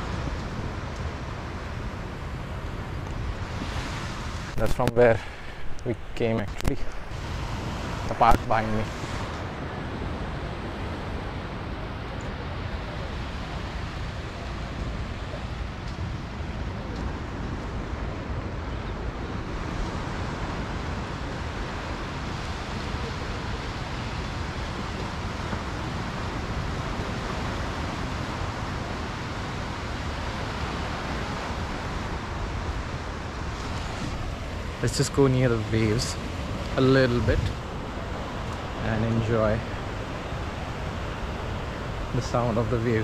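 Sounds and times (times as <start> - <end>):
sea surf on beach: 0.0 - 43.0
wind rumbling on microphone: 0.0 - 43.0.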